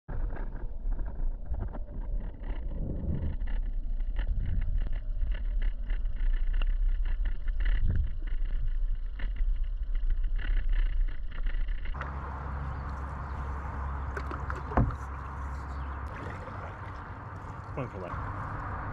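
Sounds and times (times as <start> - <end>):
underwater river rumble: 0.1 - 18.9
faint underwater clicks: 0.2 - 18.9.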